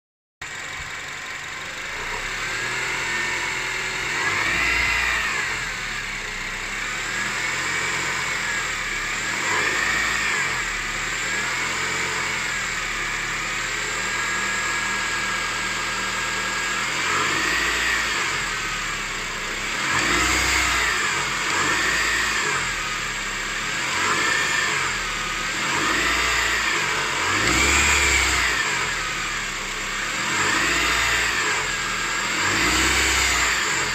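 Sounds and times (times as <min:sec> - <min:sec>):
car engine revving: 0:00.4 - 0:33.9.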